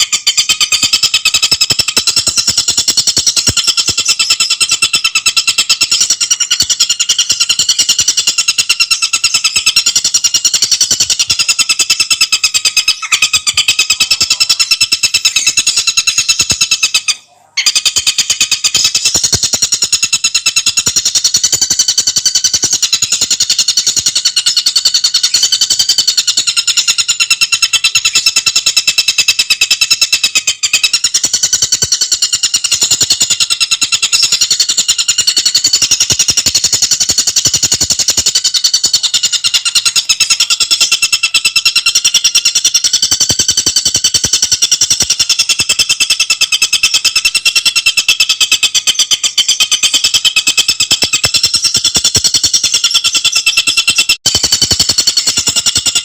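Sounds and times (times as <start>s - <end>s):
bird singing high ringing notes: 0.0s - 56.0s.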